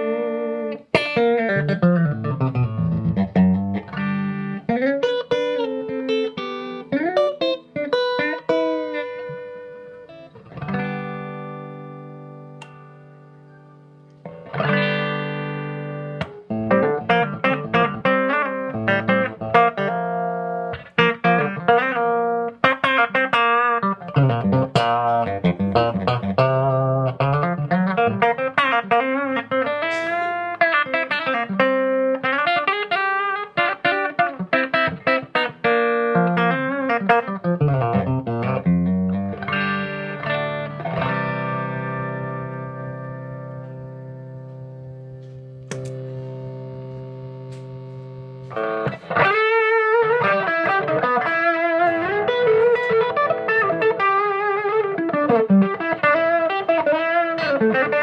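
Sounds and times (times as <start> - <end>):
electric guitar through an amp: 0.0 - 58.0.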